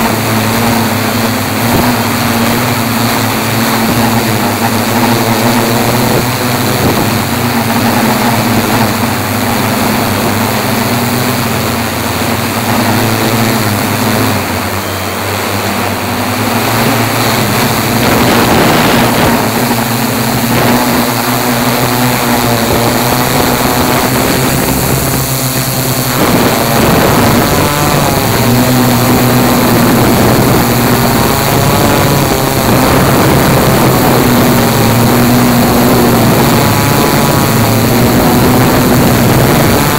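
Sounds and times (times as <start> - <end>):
drone motors buzzing: 0.0 - 39.9
wind noise: 0.0 - 39.9.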